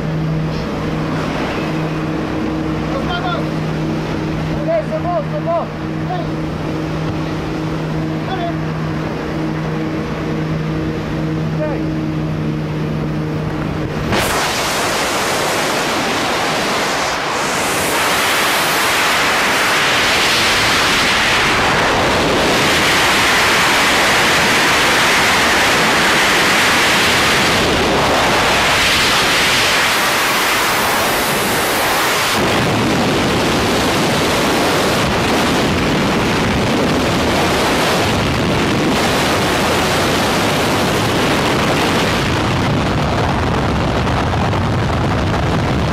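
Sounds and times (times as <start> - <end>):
plane engine drone: 0.0 - 45.9
wind rushing over microphone: 0.0 - 45.9.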